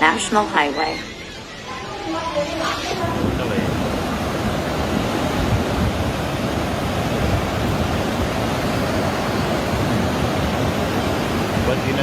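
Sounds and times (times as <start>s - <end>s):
river in flood roaring: 0.0s - 12.0s.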